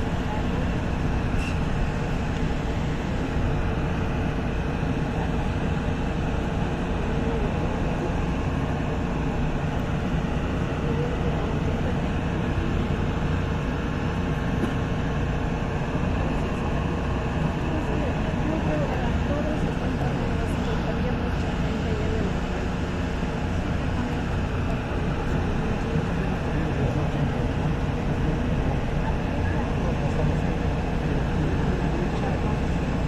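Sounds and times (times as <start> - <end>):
light rail train rumbling: 0.0 - 33.0.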